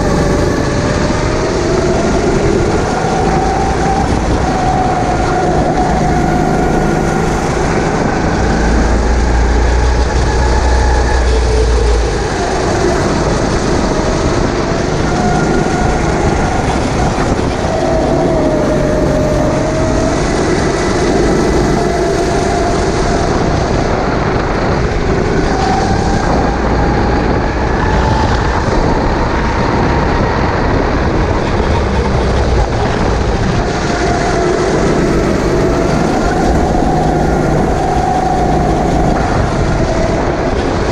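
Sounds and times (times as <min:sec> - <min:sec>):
heavy low rumble: 0:00.0 - 0:40.9
racing kart engine: 0:00.0 - 0:40.9
steady rush of noise: 0:00.0 - 0:40.9.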